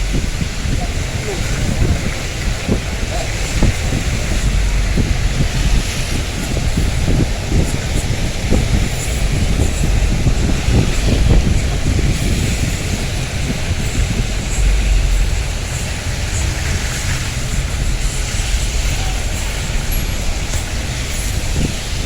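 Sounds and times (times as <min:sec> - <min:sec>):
steady rain hiss: 0:00.0 - 0:22.0
wind buffeting microphone: 0:00.0 - 0:22.0.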